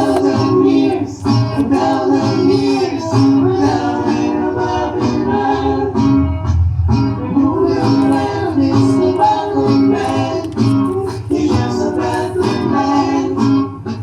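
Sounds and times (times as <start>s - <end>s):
reggae song with singing: 0.0s - 14.0s.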